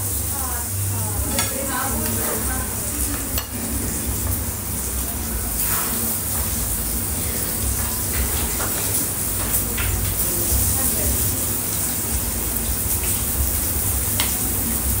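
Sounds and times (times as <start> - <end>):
food sizzling on grill: 0.0 - 15.0.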